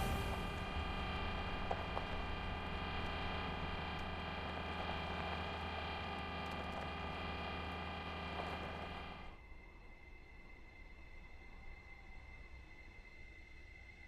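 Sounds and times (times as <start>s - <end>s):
drone of held tones: 0.0s - 12.5s.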